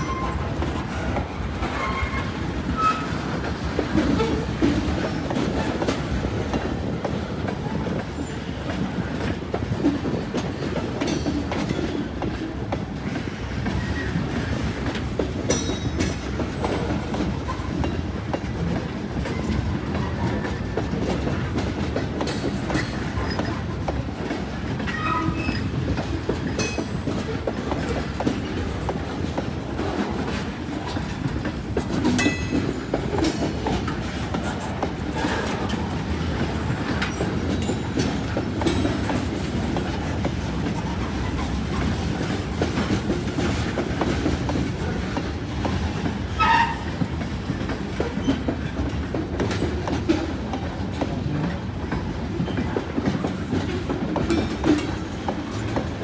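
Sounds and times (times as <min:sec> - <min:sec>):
train rumble: 0:00.0 - 0:56.0
train wheels clicking on rail joints: 0:00.0 - 0:56.0.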